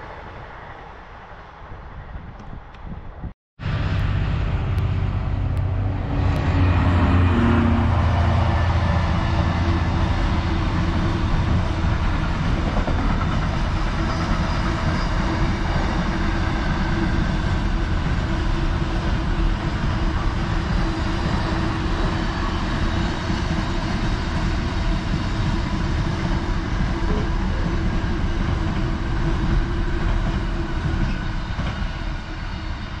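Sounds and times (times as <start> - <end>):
train wheels rumbling on rails: 1.8 - 33.0.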